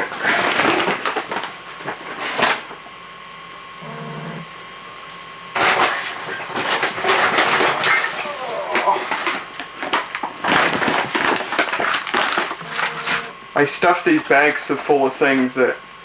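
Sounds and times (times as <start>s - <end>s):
plastic bags rustling: 0.0s - 2.7s, 5.6s - 15.7s.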